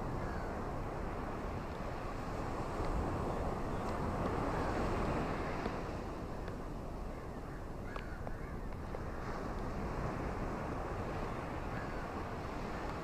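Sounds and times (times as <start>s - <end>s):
ocean waves washing on shore: 0.0s - 13.0s.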